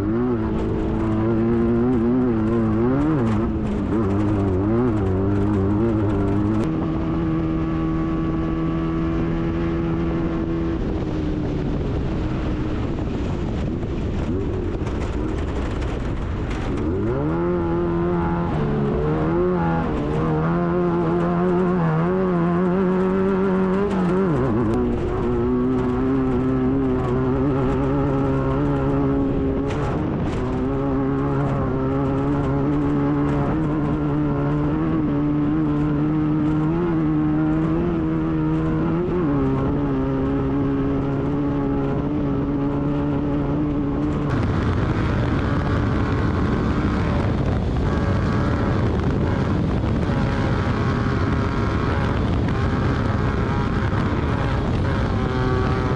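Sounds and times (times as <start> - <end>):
buggy engine running hard: 0.0 - 55.9.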